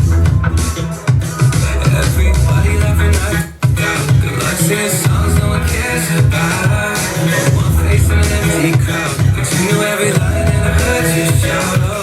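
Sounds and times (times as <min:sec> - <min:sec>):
pop song with bass and drums: 0:00.0 - 0:12.0.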